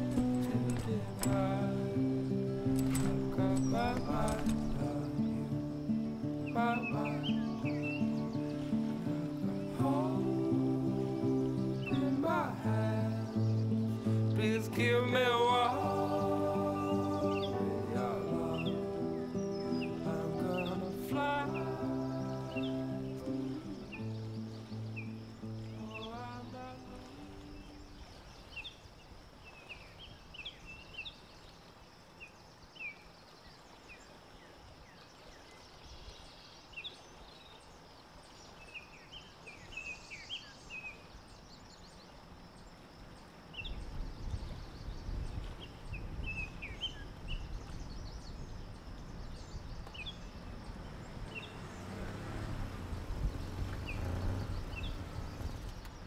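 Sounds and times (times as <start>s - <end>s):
faint steady hiss: 0.0s - 56.0s
small birds chirping: 0.0s - 56.0s.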